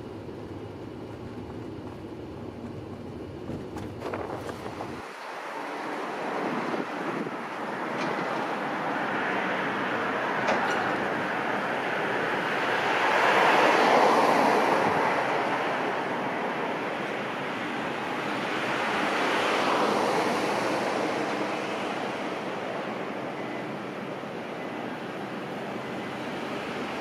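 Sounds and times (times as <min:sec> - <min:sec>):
cars passing: 0:03.6 - 0:27.0.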